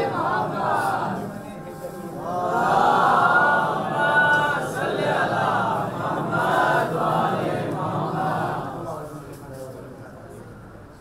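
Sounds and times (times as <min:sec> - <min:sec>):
men chanting: 0:00.0 - 0:08.8.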